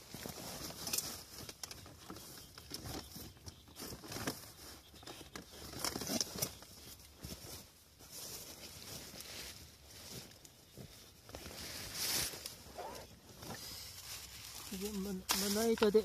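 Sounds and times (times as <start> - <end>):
rustling and crinkling of gear: 0.0 - 16.0.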